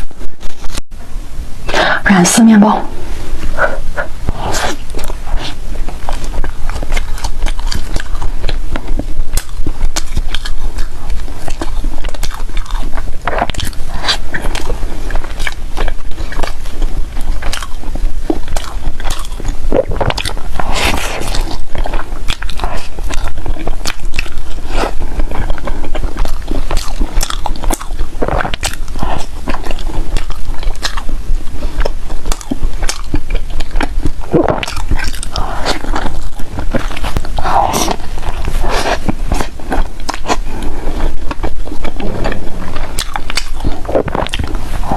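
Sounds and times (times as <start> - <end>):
biting and chewing bread: 0.0 - 0.8, 3.2 - 44.9.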